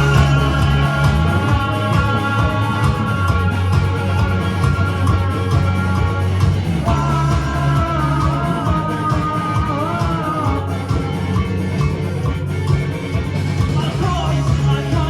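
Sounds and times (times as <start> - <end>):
rock band playing live: 0.0 - 15.0
wavering melody line: 0.0 - 15.0.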